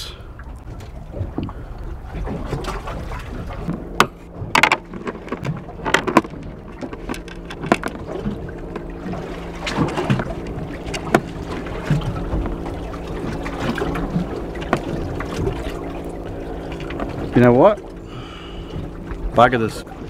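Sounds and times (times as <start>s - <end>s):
steady low hum: 0.0s - 20.0s
wind: 0.0s - 20.0s.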